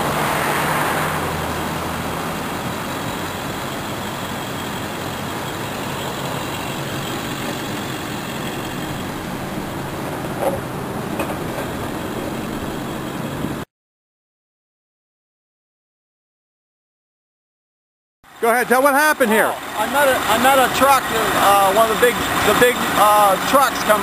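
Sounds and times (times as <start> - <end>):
truck engine running: 0.0 - 13.6, 18.3 - 24.0.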